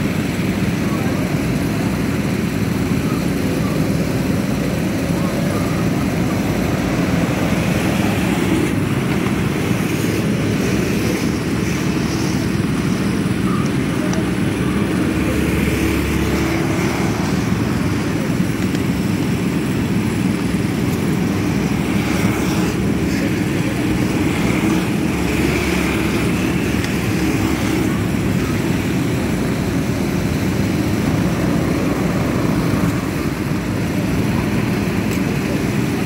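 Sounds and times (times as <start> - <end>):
go-kart engines buzzing: 0.0 - 36.0.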